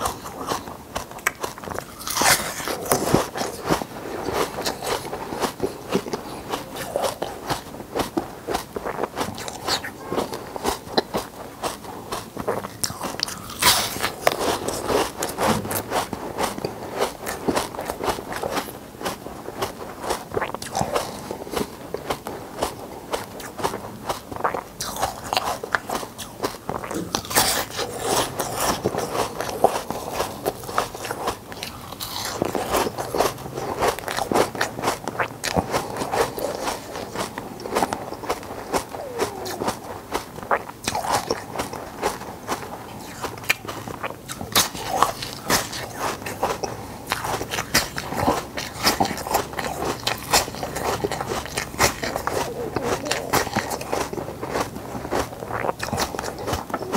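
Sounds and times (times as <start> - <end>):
ice crunching between teeth: 0.0 - 56.9.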